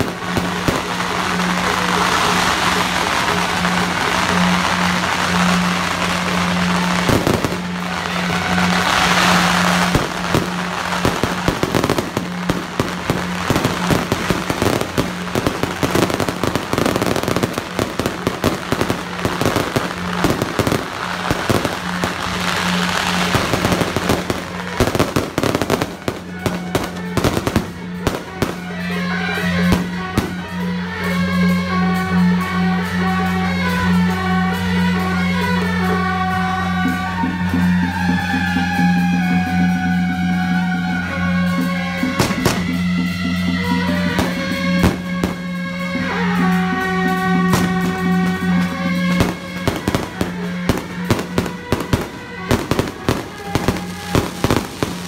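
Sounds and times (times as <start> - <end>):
fireworks crackling and banging: 0.0 - 55.0
melodic music: 0.0 - 55.0.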